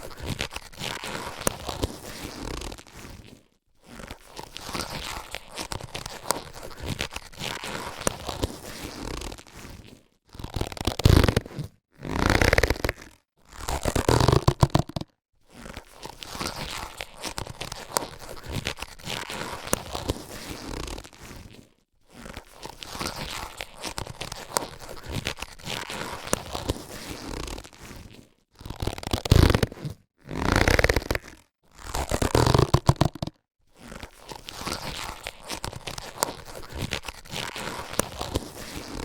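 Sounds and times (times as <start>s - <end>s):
latex gloves stretching and rubbing: 0.0s - 39.0s.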